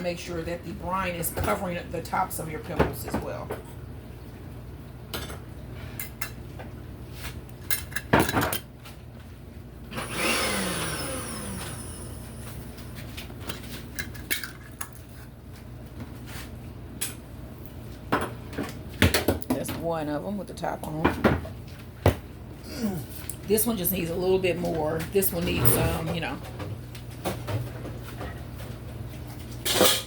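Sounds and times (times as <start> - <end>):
low appliance hum: 0.0 - 30.0.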